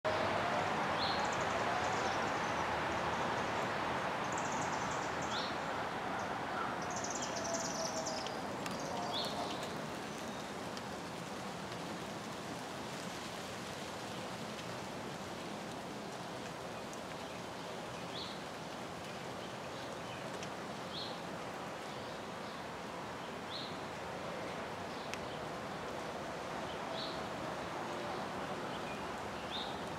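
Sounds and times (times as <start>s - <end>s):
steady background hiss: 0.2s - 29.9s.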